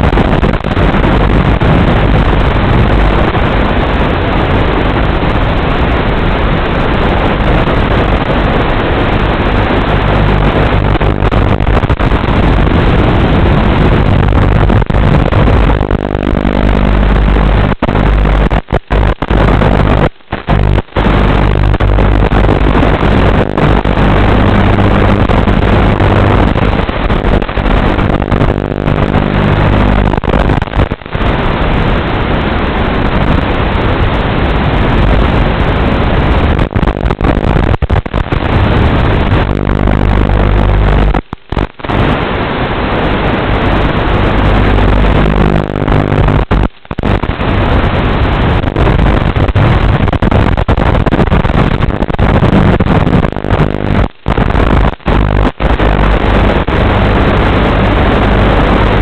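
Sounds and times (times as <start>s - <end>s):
low electrical buzz: 0.0s - 59.0s
static hiss: 0.0s - 59.0s.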